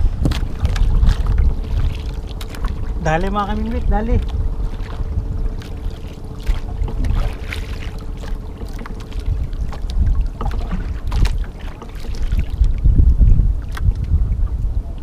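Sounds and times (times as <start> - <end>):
faint steady hum: 0.0 - 15.0
water slapping against boat hull: 0.0 - 15.0
wind buffeting microphone: 0.0 - 15.0.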